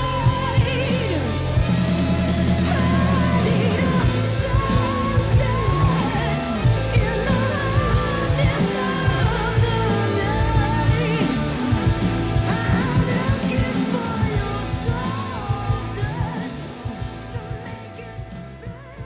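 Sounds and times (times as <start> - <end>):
woman singing: 0.0 - 1.7, 2.4 - 19.0
rock band playing: 0.0 - 19.0.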